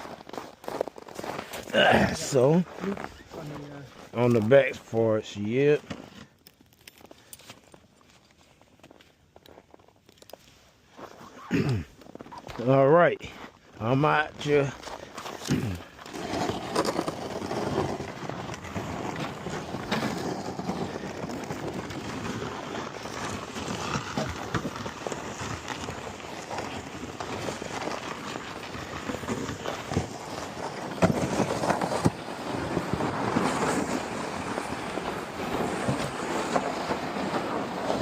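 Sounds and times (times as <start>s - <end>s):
footsteps crunching through snow: 0.0s - 5.0s, 7.0s - 38.0s
sled dragged over snow: 0.0s - 6.2s, 7.4s - 38.0s.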